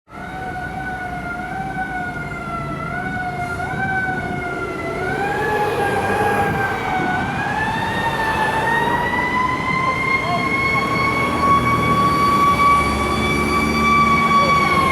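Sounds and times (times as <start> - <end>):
fire engine siren: 0.1 - 14.9
truck engine rumble: 0.1 - 14.9.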